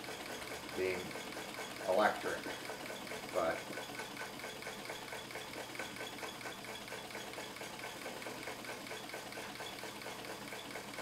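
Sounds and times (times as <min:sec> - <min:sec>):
sewing machine stitching: 0:00.0 - 0:11.0.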